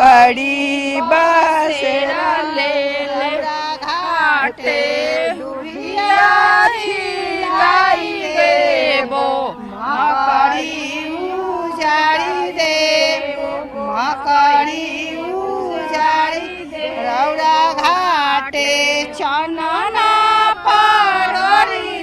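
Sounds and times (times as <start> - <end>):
woman singing a devotional folk song: 0.0 - 22.0.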